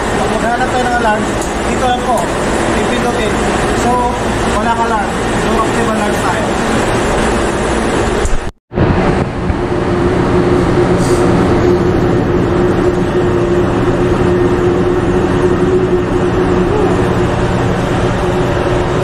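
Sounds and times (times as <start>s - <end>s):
ship machinery drone: 0.0s - 19.0s.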